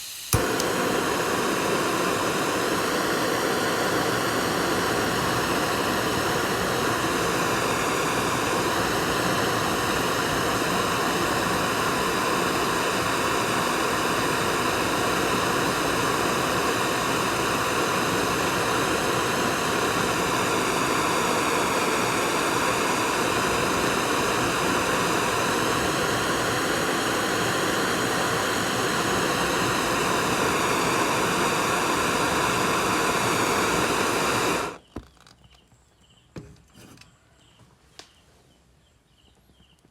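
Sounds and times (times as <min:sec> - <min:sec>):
fire burning with rushing noise: 0:00.0 - 0:34.8.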